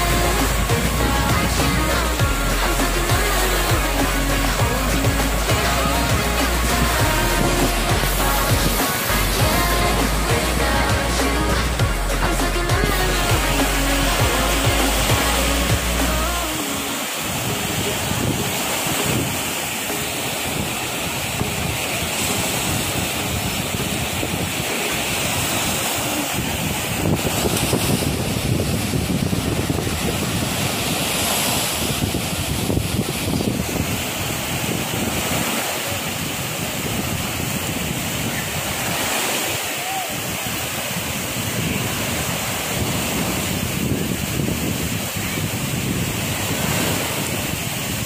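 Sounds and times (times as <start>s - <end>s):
small waves breaking: 0.0s - 48.0s
wind on microphone: 0.0s - 48.0s.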